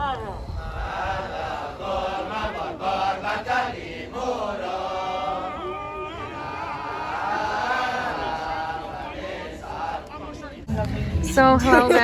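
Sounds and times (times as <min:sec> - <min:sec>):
male chorus chanting: 0:00.6 - 0:11.2.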